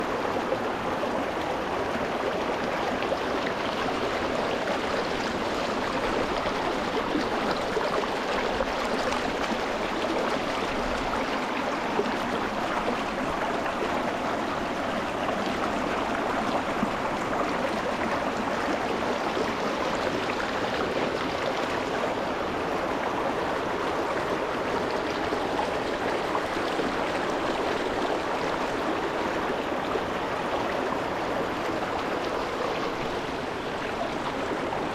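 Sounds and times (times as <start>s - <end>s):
stream flowing over stones: 0.0s - 34.9s.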